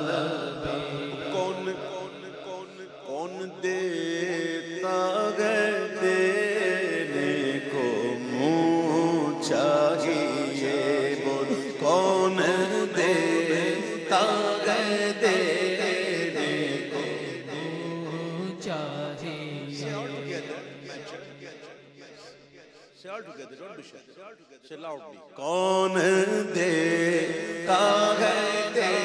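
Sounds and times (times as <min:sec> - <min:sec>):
man singing into microphone: 0:00.0 - 0:22.3, 0:24.8 - 0:29.0.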